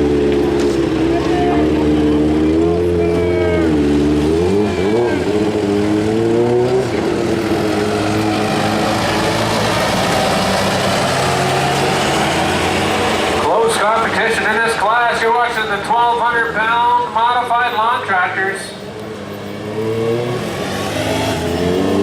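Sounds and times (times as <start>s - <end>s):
lawn tractor engine revving: 0.0s - 18.4s, 19.0s - 22.0s.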